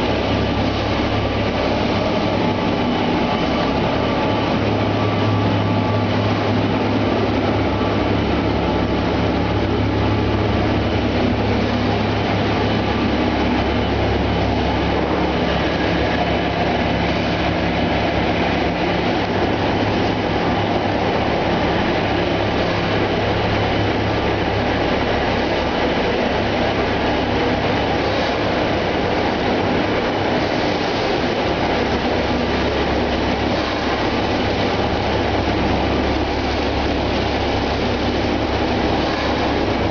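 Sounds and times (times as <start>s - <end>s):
constant low hum: 0.0s - 39.9s
production line machinery din: 0.0s - 39.9s.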